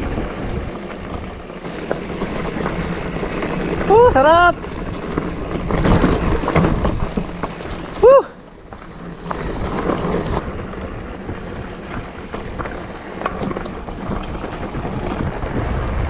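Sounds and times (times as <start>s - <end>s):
bike clicks and knocks: 0.0s - 16.0s
bike tyres rolling over dirt: 0.0s - 16.0s.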